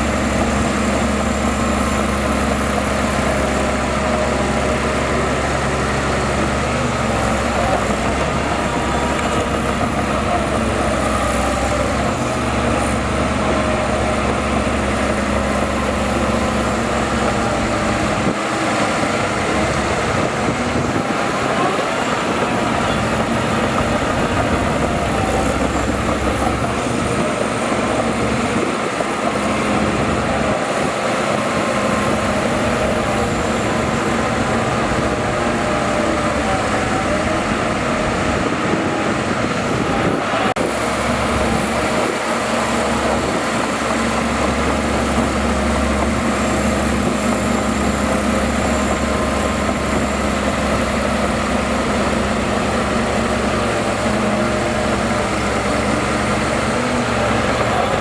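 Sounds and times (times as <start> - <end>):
diesel machinery rumbling: 0.0 - 58.0.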